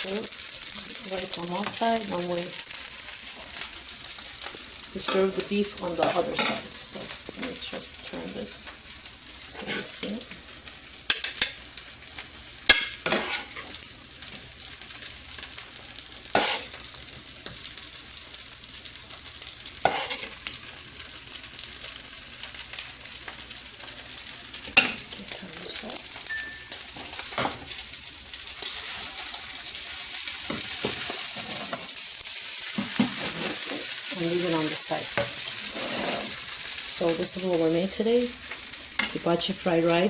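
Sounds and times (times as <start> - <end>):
food sizzling in a skillet: 0.0 - 40.0.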